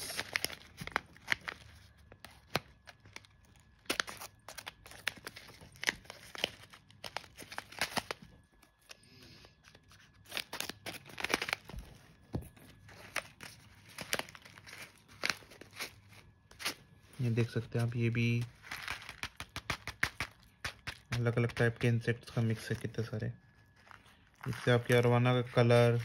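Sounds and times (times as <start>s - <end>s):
plastic pouch crinkling and tearing: 0.0s - 26.0s.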